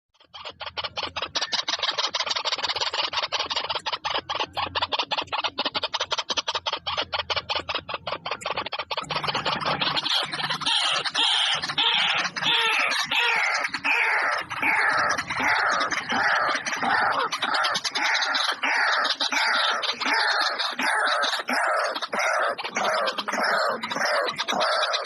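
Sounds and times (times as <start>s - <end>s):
birds clicking calls: 0.2s - 25.0s
harsh falling bird calls: 0.2s - 25.0s.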